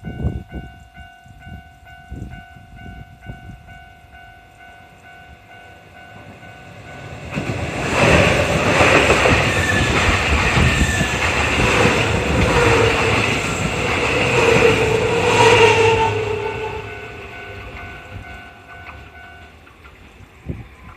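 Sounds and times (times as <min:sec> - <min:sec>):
level crossing alarm ringing: 0:00.0 - 0:19.7
train passing: 0:00.0 - 0:20.9.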